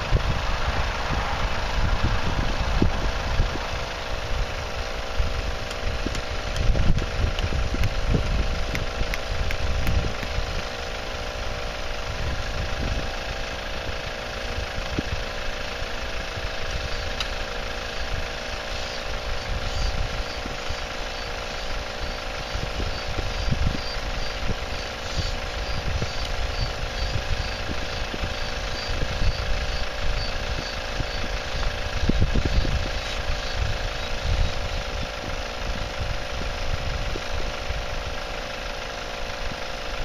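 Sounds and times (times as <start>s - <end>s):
wind gusting on microphone: 0.0s - 38.2s
air compressors humming: 0.0s - 40.0s.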